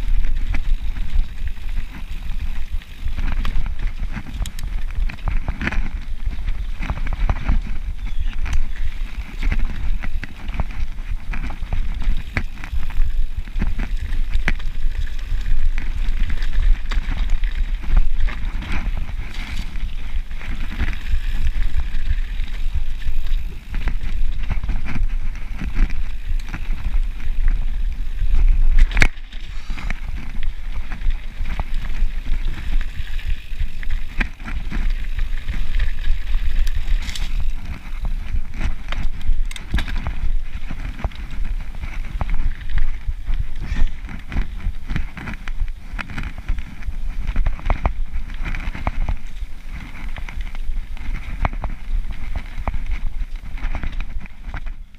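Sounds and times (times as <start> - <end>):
bike tyres running over dirt: 0.0 - 54.9
wind rumble on microphone: 0.0 - 54.9.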